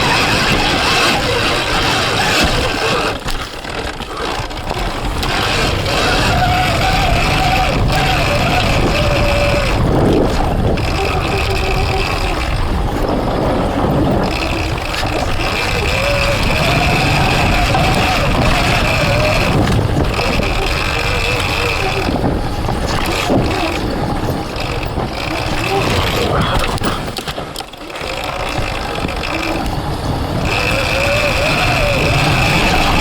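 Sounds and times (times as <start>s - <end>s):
electric motor whine: 0.0s - 33.0s
tyre and wind noise: 0.0s - 33.0s.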